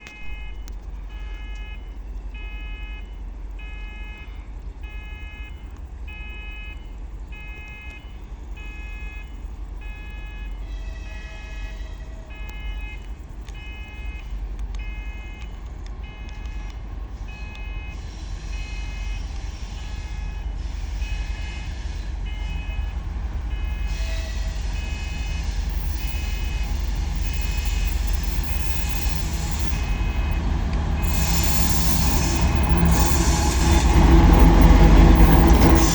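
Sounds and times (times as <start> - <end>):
level crossing signal beeping: 0.0 - 4.2, 4.9 - 35.9
low train rumble: 0.0 - 35.9.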